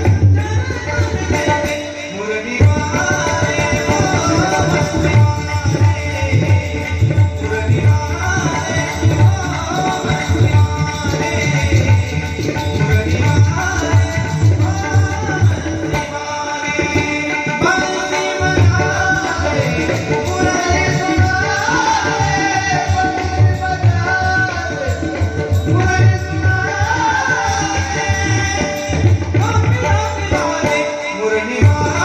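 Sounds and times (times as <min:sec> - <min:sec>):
person singing devotional melody: 0:00.0 - 0:32.0
tabla and barrel drums: 0:00.0 - 0:32.0.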